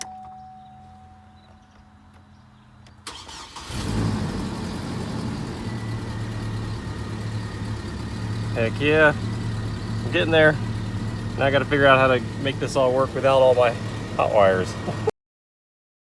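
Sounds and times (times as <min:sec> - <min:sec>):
car engine cranking and idling: 0:01.7 - 0:15.1.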